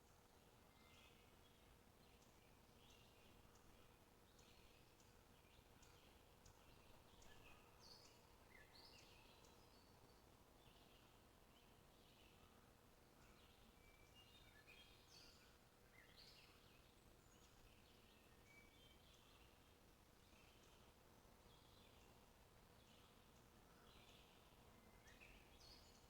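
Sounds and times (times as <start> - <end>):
soft steady hiss: 0.0 - 26.0.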